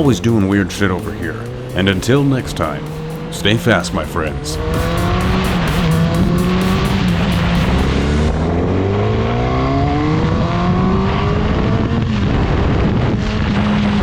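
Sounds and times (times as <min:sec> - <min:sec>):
vehicle motor accelerating: 0:00.0 - 0:11.8.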